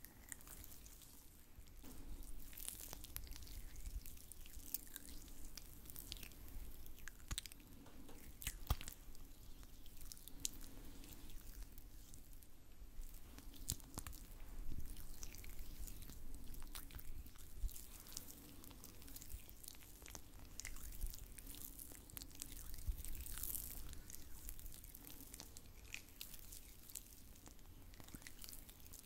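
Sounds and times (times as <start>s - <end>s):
oily hands rubbing and squishing: 0.0s - 29.0s.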